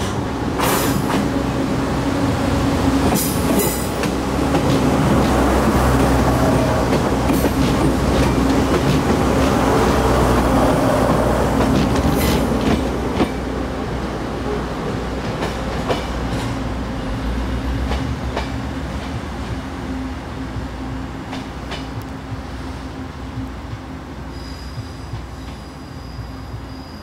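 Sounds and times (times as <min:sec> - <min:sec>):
diesel train engine drone: 0:00.0 - 0:27.0.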